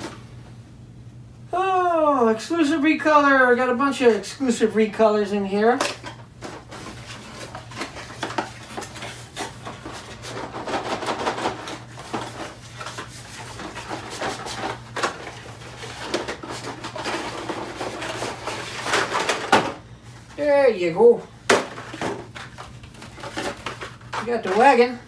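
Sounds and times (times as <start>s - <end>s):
steady low hum: 0.0s - 24.2s.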